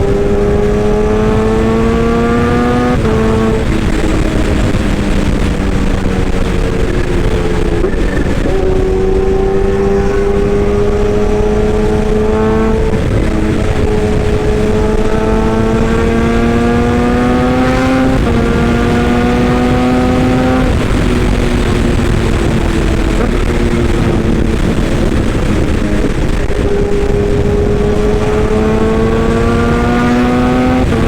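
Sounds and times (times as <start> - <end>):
vehicle engine whining: 0.0 - 31.0.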